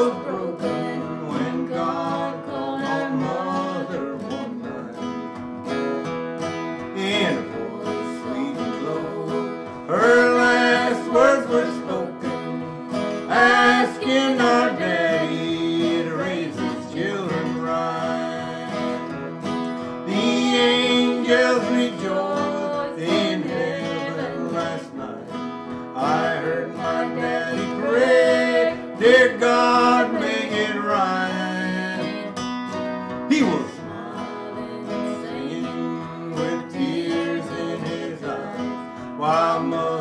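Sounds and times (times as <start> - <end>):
person singing: 0.0 - 5.3, 6.8 - 32.5, 33.2 - 40.0
acoustic guitars playing: 0.0 - 40.0.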